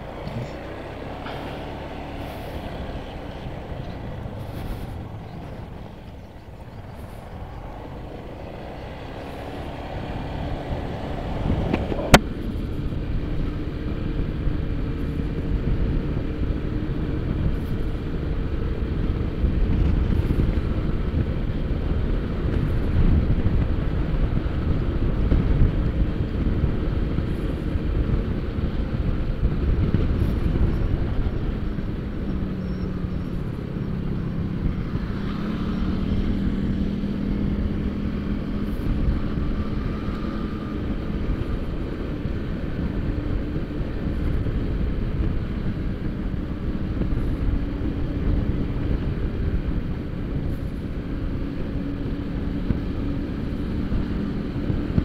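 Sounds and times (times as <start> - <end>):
scooter engine running: 0.0 - 55.0
wind and road noise: 0.0 - 55.0.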